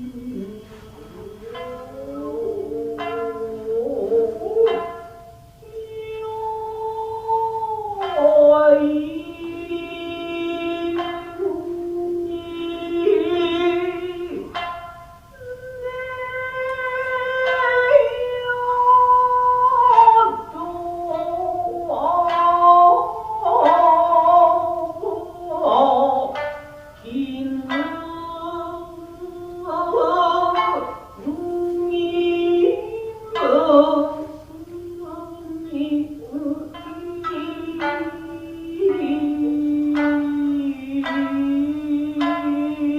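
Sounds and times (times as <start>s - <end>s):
person singing long wavering notes: 0.0s - 42.9s
plucked shamisen: 0.0s - 42.9s.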